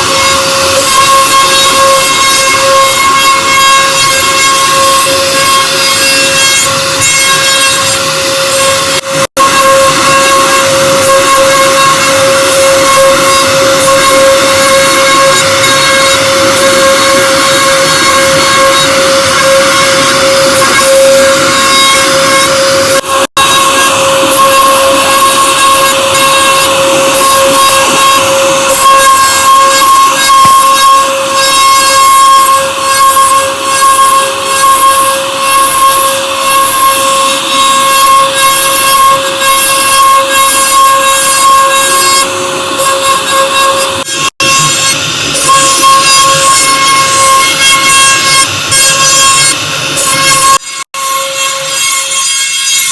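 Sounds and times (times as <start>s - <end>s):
router spindle whine: 0.0s - 52.9s
rushing cutting noise: 0.0s - 52.9s.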